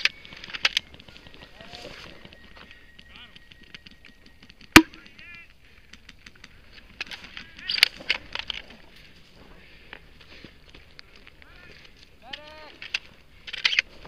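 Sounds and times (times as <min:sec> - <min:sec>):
dry stalks rustling and crackling: 0:00.0 - 0:14.0.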